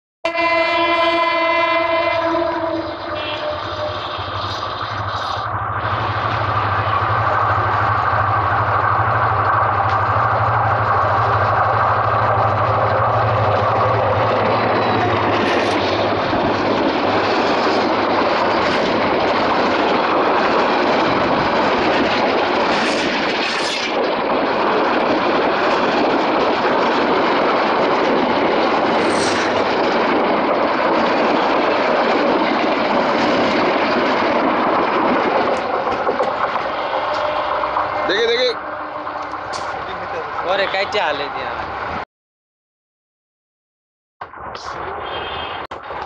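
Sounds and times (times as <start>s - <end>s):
diesel locomotive engine drone: 0.3s - 42.0s, 44.2s - 46.0s
train wheels rushing on rails: 0.6s - 42.0s.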